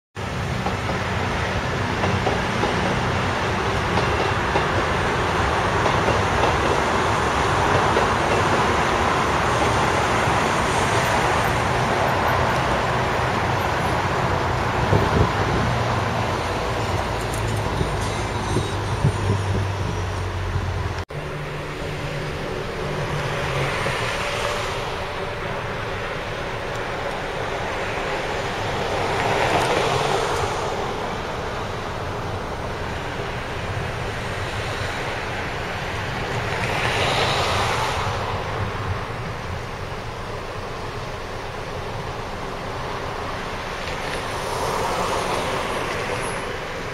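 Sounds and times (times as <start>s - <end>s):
road traffic passing: 0.2s - 46.9s.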